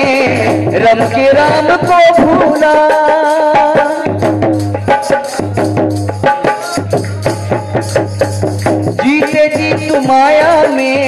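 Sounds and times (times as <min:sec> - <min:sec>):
hand percussion beat: 0:00.0 - 0:11.0
instrumental melody: 0:00.0 - 0:11.0.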